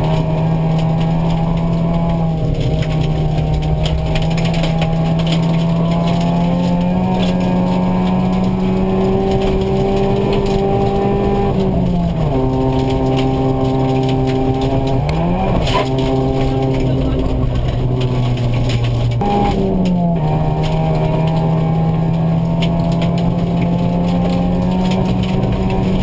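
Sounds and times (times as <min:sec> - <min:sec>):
rally car engine at high revs: 0:00.0 - 0:26.0
stones ticking against car: 0:00.0 - 0:26.0
tyres on gravel: 0:00.0 - 0:26.0.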